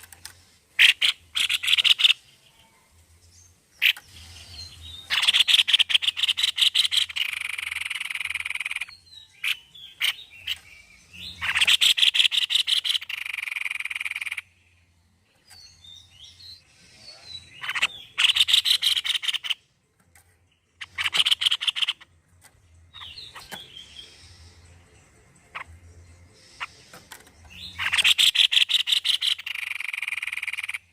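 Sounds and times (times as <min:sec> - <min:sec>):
bird singing rattling trills: 0:00.0 - 0:30.9
soft bird chirps: 0:00.0 - 0:30.9.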